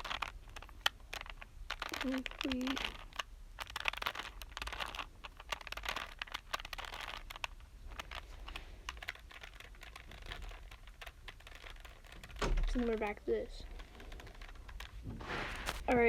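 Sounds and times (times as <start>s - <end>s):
puzzle cube clicking as twisted: 0.0s - 16.0s.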